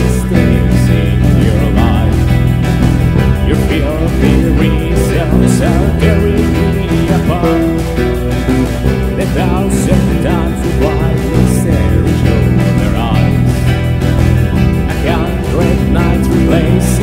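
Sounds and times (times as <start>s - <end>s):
drum kit with cymbals: 0.0s - 17.0s
electric bass: 0.0s - 17.0s
electric guitar: 0.0s - 17.0s.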